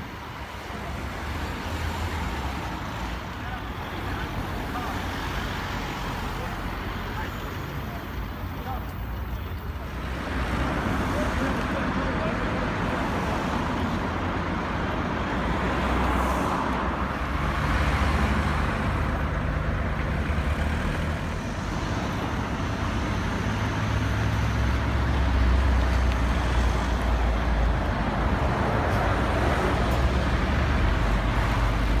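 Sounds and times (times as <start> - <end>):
road and traffic noise: 0.0 - 32.0
vehicle engine humming: 0.0 - 32.0.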